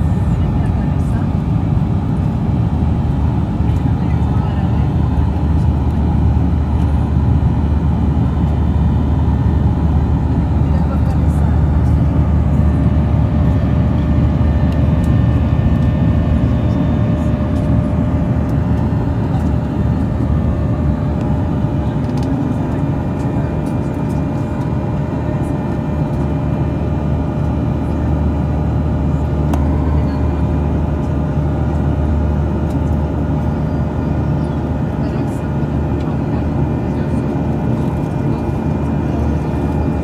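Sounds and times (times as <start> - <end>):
jet engines rumbling and whining: 0.0 - 40.0.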